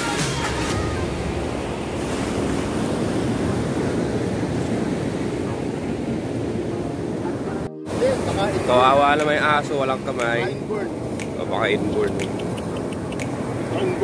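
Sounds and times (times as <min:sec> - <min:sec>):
sea surf on shore: 0:00.0 - 0:14.0.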